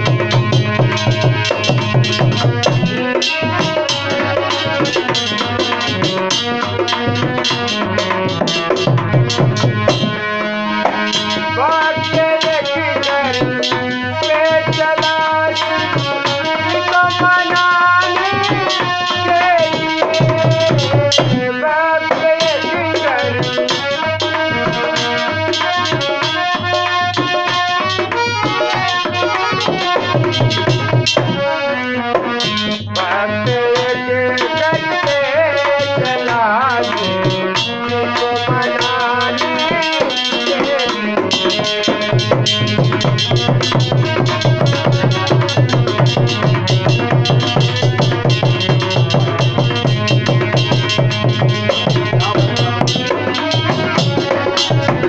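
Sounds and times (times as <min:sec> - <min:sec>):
hand drum rhythm: 0:00.0 - 0:55.0
sustained melody instrument: 0:00.0 - 0:55.0
tabla and percussion beat: 0:00.0 - 0:55.0.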